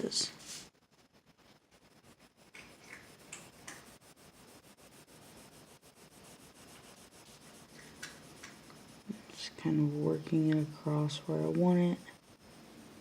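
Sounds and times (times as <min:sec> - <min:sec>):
colored pencil scratching on paper: 0:00.4 - 0:13.0.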